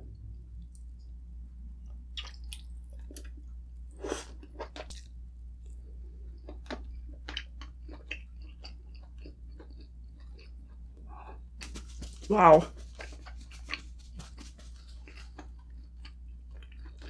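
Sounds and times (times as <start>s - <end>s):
chewing soft wet food: 1.8s - 11.8s, 12.7s - 17.0s.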